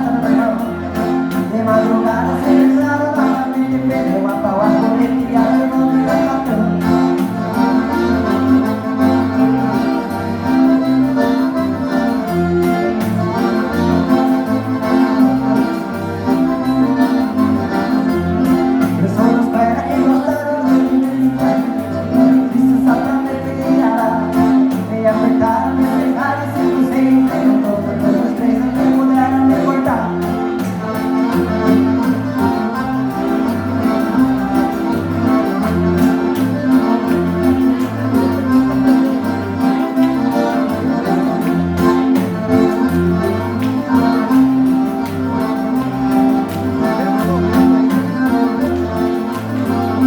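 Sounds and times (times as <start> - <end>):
accordion melody: 0.0 - 50.0.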